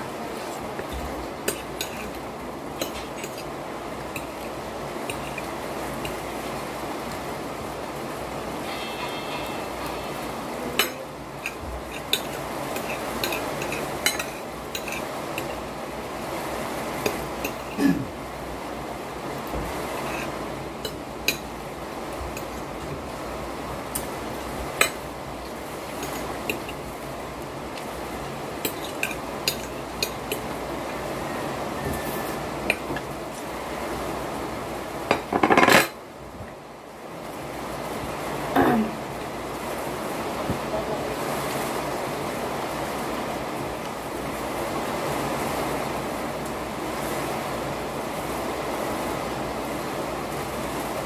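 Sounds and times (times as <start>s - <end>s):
steady background hiss: 0.0s - 51.0s
steady background noise: 0.0s - 51.0s.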